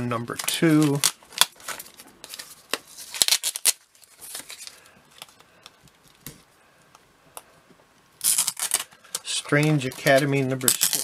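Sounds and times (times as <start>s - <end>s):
plastic sleeves rustling: 0.0s - 6.5s, 8.2s - 11.0s.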